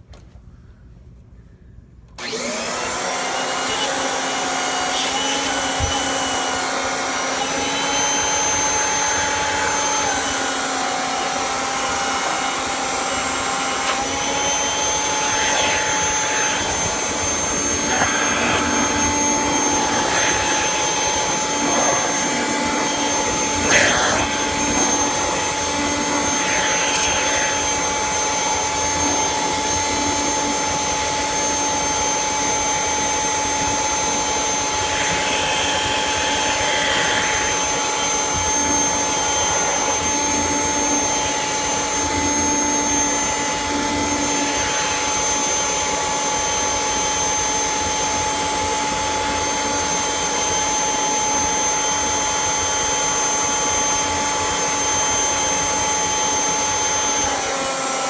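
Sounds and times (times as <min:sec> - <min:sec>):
upright vacuum cleaner running: 0:02.1 - 0:58.0.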